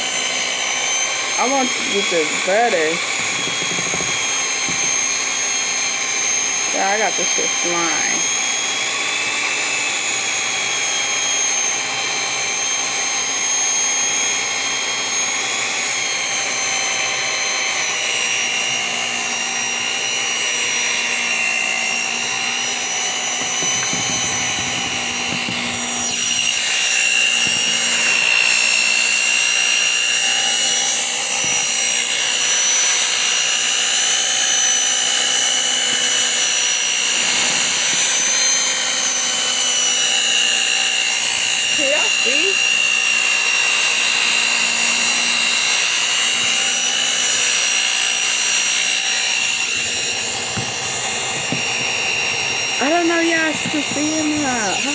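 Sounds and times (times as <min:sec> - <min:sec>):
electric mixer motor whining: 0:00.0 - 0:54.9.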